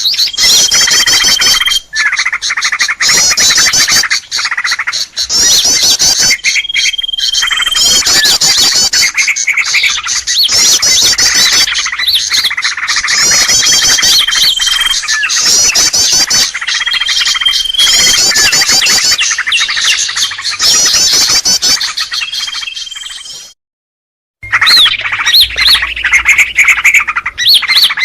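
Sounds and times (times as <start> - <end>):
small birds chirping and squawking: 0.0 - 23.6, 24.4 - 28.0
steady bird trill: 0.0 - 23.6, 24.4 - 28.0.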